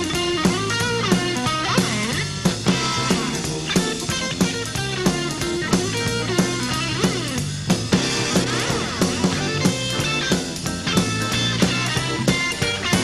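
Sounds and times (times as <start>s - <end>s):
bass guitar: 0.0s - 13.0s
drum kit steady beat: 0.0s - 13.0s
electric guitar lines: 0.0s - 13.0s.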